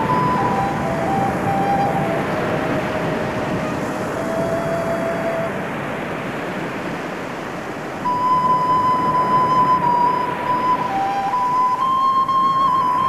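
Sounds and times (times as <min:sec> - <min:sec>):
long held pure tones: 0:00.0 - 0:07.0, 0:07.8 - 0:13.0
steady rushing noise: 0:00.0 - 0:13.0.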